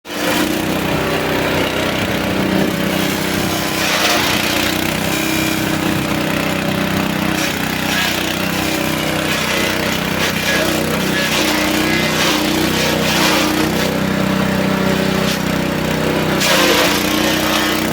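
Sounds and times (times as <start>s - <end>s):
chopper motor drone: 0.1s - 17.9s
rough chopping noise: 1.9s - 14.4s, 15.1s - 17.9s.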